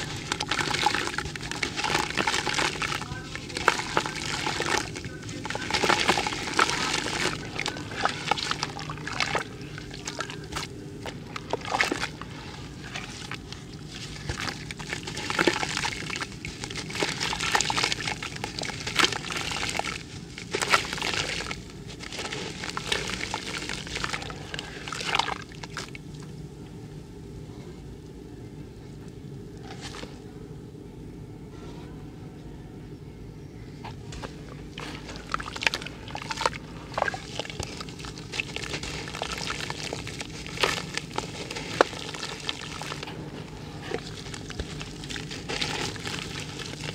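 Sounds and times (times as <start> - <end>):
powder pouring into water: 0.0 - 26.0, 34.7 - 46.9
dry clumps crunching: 0.0 - 26.3, 33.8 - 46.9
water splashing and sloshing: 0.0 - 26.4, 33.9 - 46.9.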